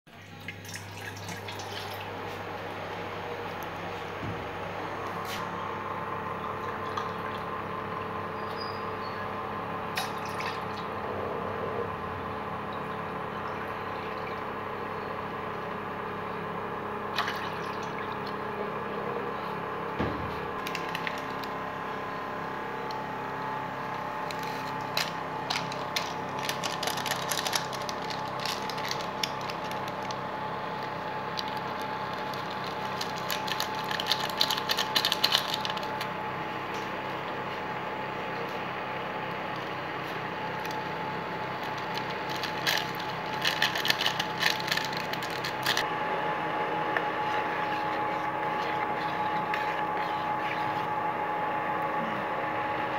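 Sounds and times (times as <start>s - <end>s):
background hum: 0.1s - 52.9s.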